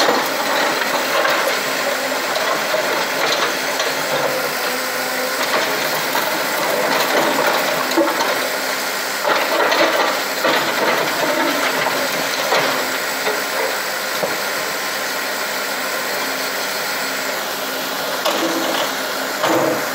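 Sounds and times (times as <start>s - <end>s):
backhoe diesel engine running: 0.0s - 19.9s.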